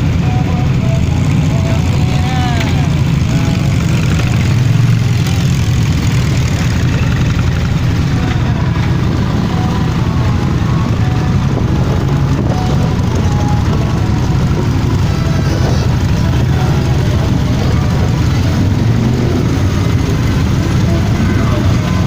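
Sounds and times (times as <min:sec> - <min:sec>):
motorcycle engines running: 0:00.0 - 0:22.0.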